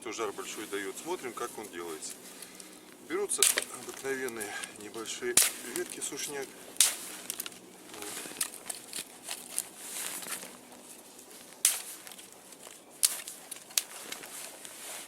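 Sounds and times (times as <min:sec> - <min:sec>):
branches rustling and crunching: 0:00.0 - 0:15.0
dry twigs snapping: 0:00.3 - 0:15.0.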